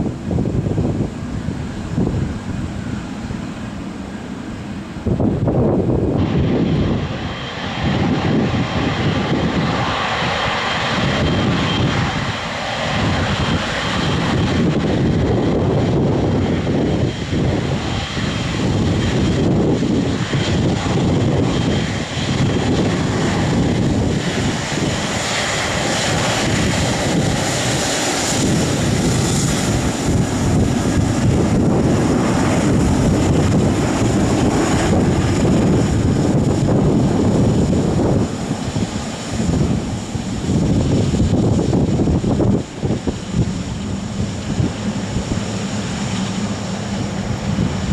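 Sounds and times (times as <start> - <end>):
airliner engines roaring: 0.0 - 47.9
wind buffeting microphone: 0.0 - 47.9.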